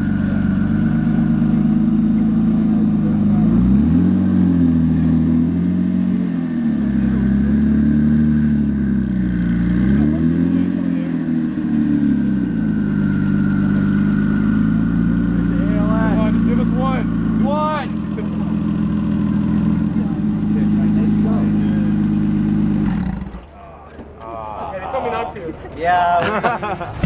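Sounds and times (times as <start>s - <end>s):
car engine idling and revving: 0.0s - 24.3s.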